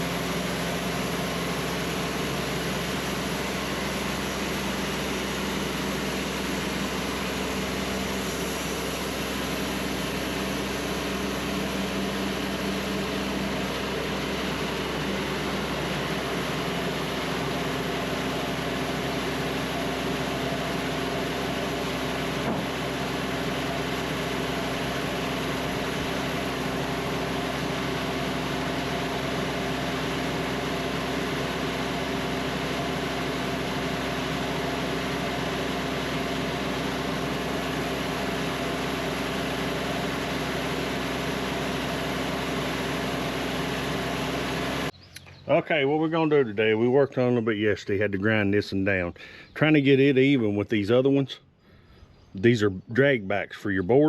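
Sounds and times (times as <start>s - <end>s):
band sawmill humming: 0.0s - 52.6s.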